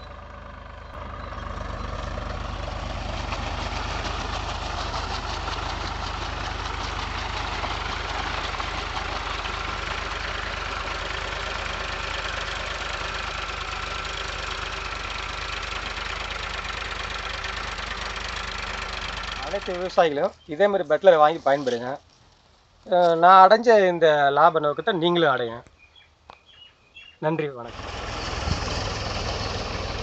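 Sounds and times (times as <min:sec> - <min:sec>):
tractor diesel engine running: 0:00.0 - 0:22.5, 0:27.6 - 0:30.0.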